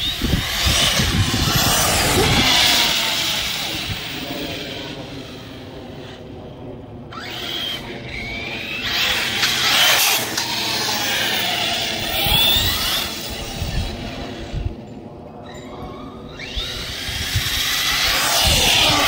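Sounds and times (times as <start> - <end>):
toy car electric motor whining: 0.0 - 5.6, 7.1 - 14.8, 15.8 - 19.0.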